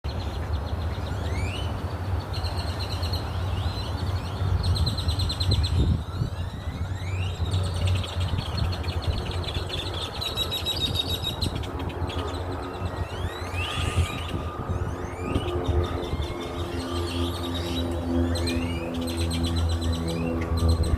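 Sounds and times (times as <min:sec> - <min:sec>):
small birds chirping: 0:00.1 - 0:20.9
steady low rumble: 0:01.8 - 0:20.9.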